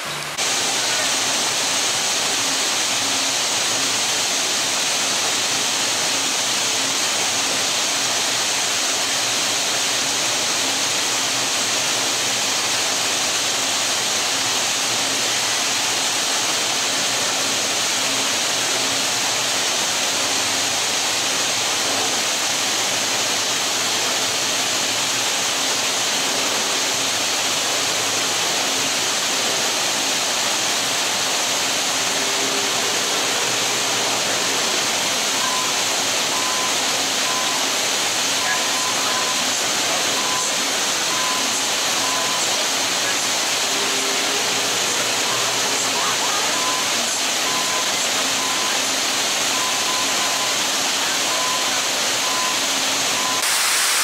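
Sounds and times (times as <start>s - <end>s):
rushing churning water: 0.0s - 54.0s.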